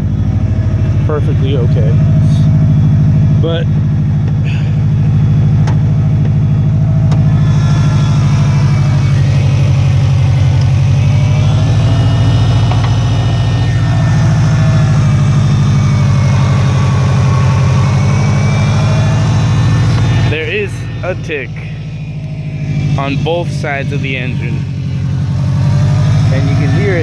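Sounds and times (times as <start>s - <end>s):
car engine idling: 0.0s - 27.0s
engine ticking: 0.0s - 27.0s.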